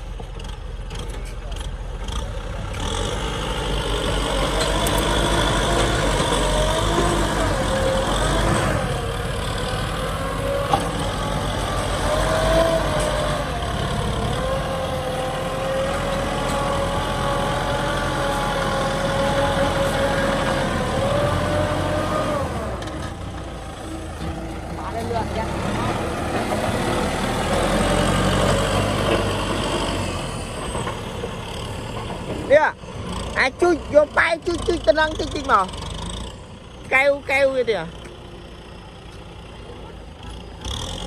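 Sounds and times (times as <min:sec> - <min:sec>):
tractor diesel engine under load: 0:00.0 - 0:41.0.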